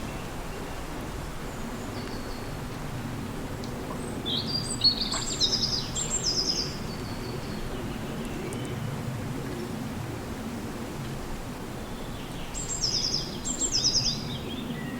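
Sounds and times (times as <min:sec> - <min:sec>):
wind rushing through forest: 0:00.0 - 0:14.9.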